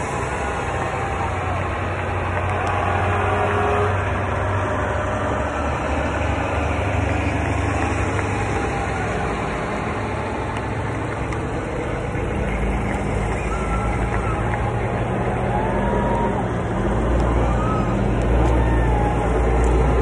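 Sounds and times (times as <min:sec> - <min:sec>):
fire truck engines rumbling: 0:00.0 - 0:20.0.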